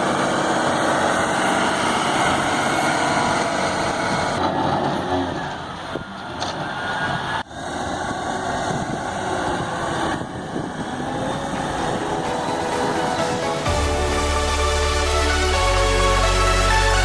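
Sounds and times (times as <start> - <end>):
diesel machinery drone: 0.0 - 17.0.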